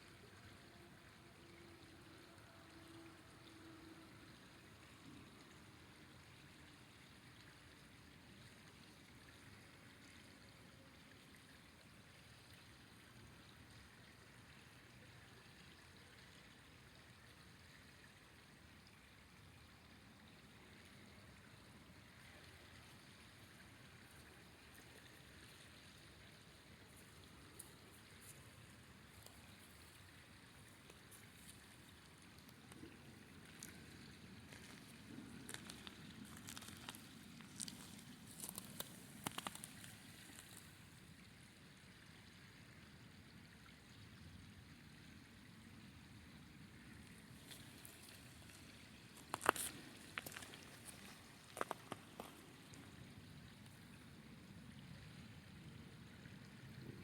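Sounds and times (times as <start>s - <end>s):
faint river water rushing: 0.0s - 57.0s.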